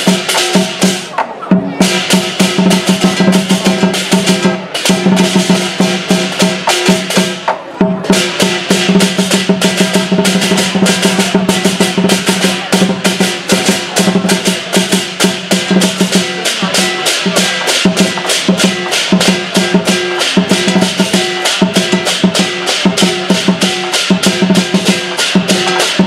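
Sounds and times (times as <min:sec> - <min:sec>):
cymbals clashing: 0:00.0 - 0:26.0
drum beating: 0:00.0 - 0:26.0.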